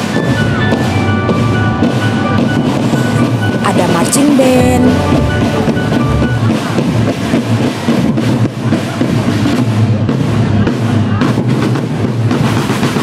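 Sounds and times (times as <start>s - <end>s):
marching snare drums: 0.0s - 13.0s.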